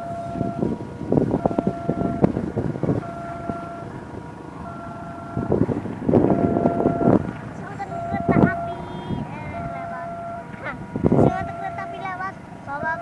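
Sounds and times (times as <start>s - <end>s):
electronic warning tone: 0.0s - 4.0s, 4.6s - 5.6s, 6.2s - 13.0s.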